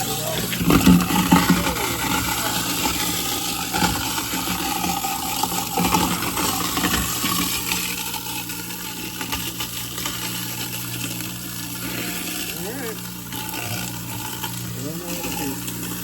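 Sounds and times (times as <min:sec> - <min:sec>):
garbage disposal motor hum: 0:00.0 - 0:16.0
ice cubes rattling: 0:00.0 - 0:16.0.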